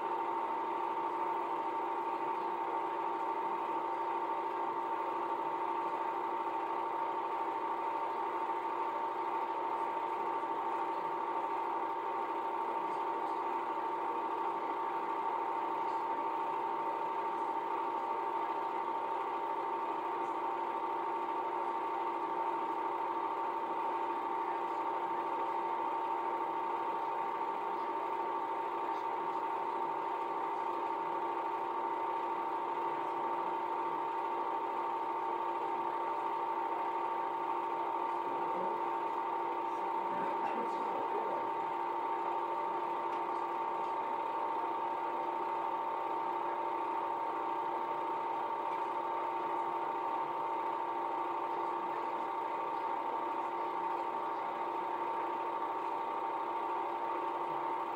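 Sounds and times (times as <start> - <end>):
film projector whirring: 0.0 - 57.9.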